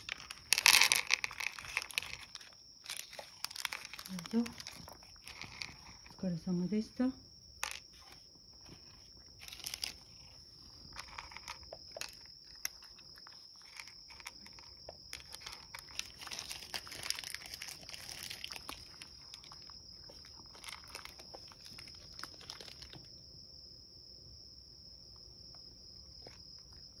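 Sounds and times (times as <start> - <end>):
cat crunching dry kibble: 0.0 - 6.2, 7.6 - 23.1.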